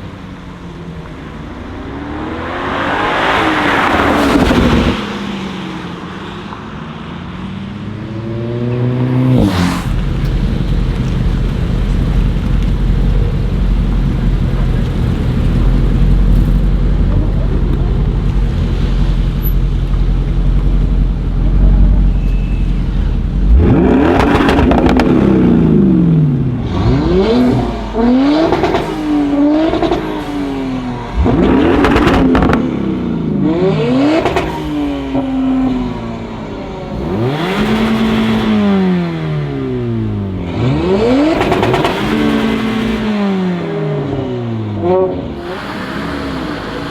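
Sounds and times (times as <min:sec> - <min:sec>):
car engine revving: 0:00.0 - 0:46.9
exhaust crack: 0:08.7 - 0:46.9.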